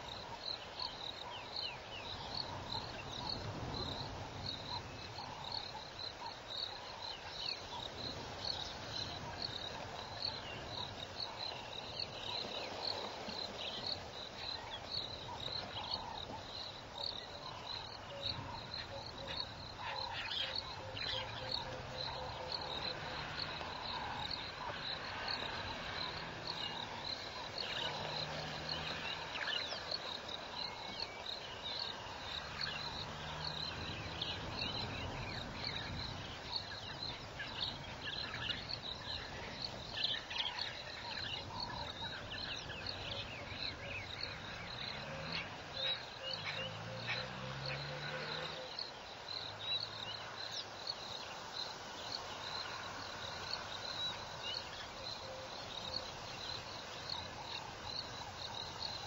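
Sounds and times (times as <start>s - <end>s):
insects chirring: 0.0s - 59.0s
wildlife chirps and calls: 0.0s - 59.0s.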